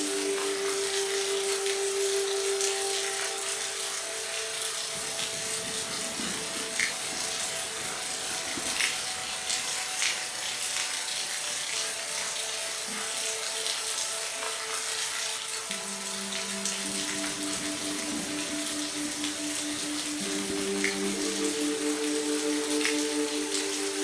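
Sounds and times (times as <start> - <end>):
rain falling: 0.0 - 24.0
raindrops ticking: 0.0 - 24.0.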